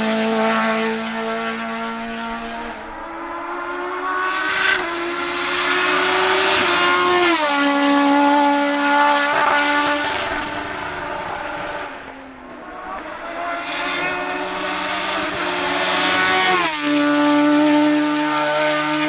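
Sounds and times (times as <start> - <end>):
race car engine passing at speed: 0.0 - 19.0.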